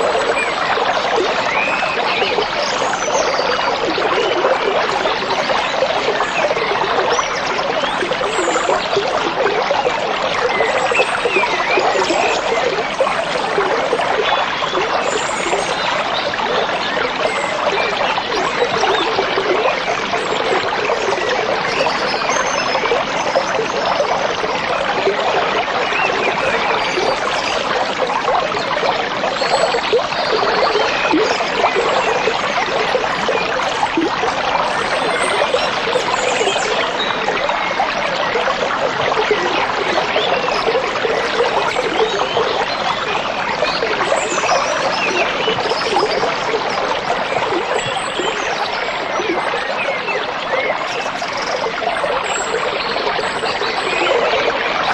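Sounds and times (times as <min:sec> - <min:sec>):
stream trickling and babbling: 0:00.0 - 0:54.9.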